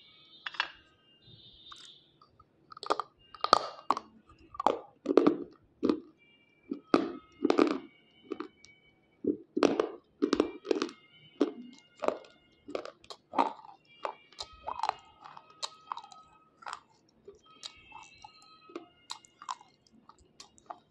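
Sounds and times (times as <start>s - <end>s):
teeth crunching slate: 1.7s - 20.9s.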